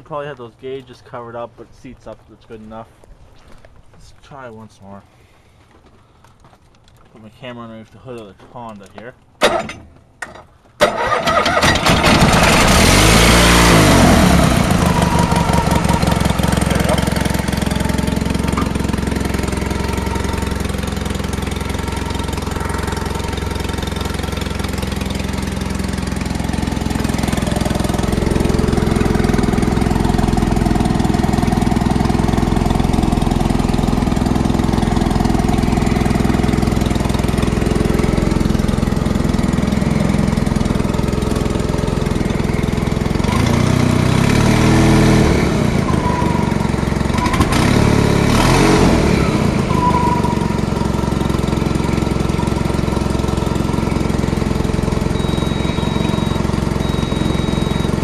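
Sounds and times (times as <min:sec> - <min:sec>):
car engine running: 0:11.5 - 0:58.0.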